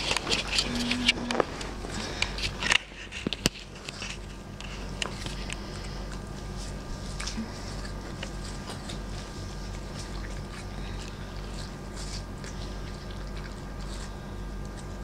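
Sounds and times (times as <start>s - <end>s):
dog crunching on a pear: 0.0s - 15.0s
steady low hum: 0.0s - 15.0s.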